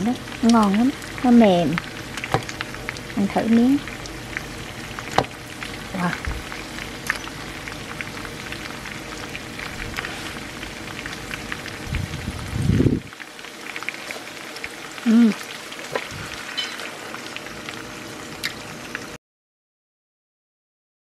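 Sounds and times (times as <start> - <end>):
meat sizzling in hot oil: 0.0 - 19.2.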